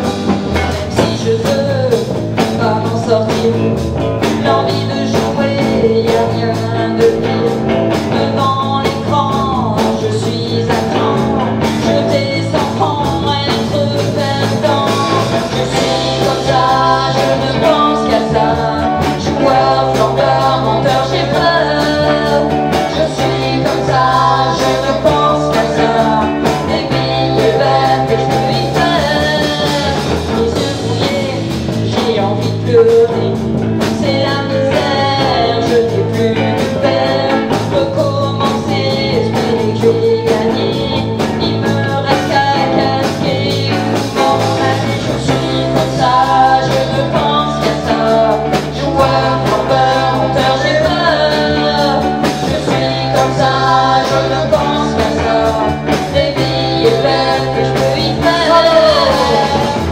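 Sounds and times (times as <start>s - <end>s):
live band playing rock-blues: 0.0s - 59.9s
woman singing into microphone: 0.6s - 59.9s.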